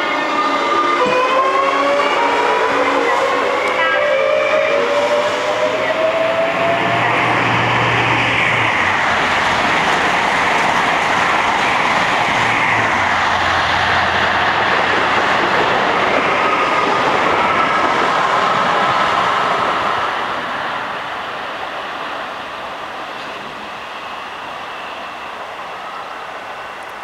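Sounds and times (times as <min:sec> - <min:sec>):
train passing at speed: 0:00.0 - 0:27.0.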